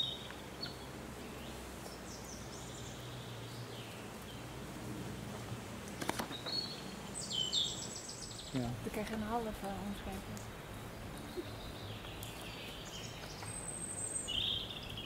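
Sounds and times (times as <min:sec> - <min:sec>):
low outdoor hum: 0:00.0 - 0:15.0
songbirds singing: 0:00.0 - 0:15.0.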